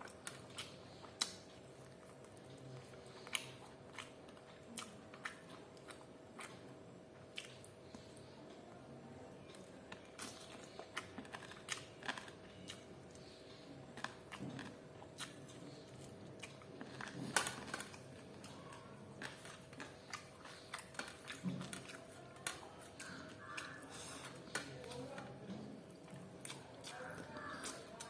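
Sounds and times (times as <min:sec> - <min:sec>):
chewing and biting food: 0:00.0 - 0:08.4, 0:09.4 - 0:28.0.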